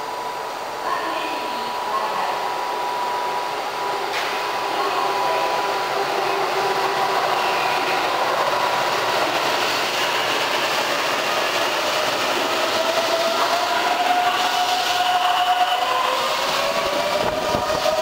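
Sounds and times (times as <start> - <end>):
electric train whooshing: 1.8 - 18.0.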